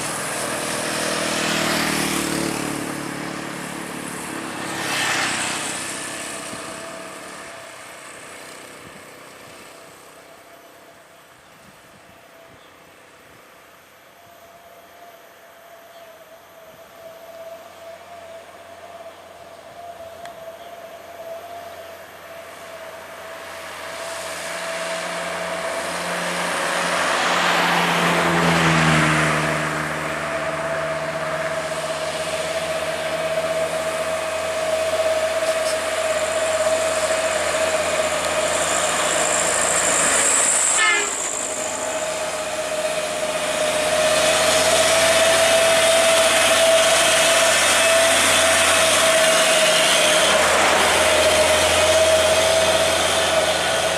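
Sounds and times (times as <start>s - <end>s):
heavy diesel trucks passing: 0.0s - 13.8s, 16.8s - 53.9s
steady high whine: 0.0s - 28.6s, 29.2s - 53.9s.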